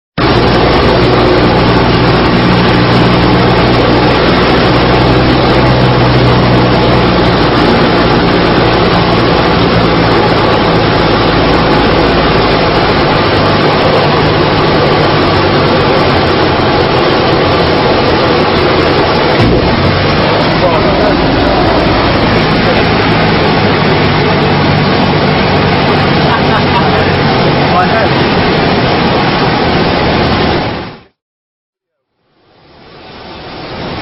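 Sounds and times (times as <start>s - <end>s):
light aircraft engine droning: 0.2s - 30.9s
cockpit noise rush: 0.2s - 31.2s.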